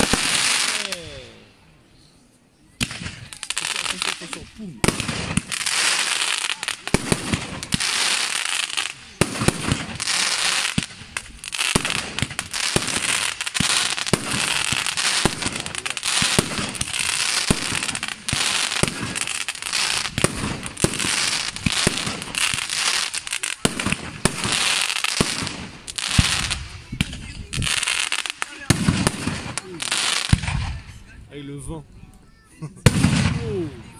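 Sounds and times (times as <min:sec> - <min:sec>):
glitter firework crackle: 0:00.0 - 0:01.5, 0:02.8 - 0:31.2, 0:32.8 - 0:33.9.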